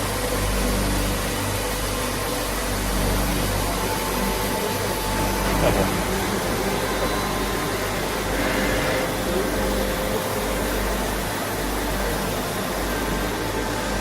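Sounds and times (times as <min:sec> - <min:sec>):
machinery hum and hiss: 0:00.0 - 0:14.0.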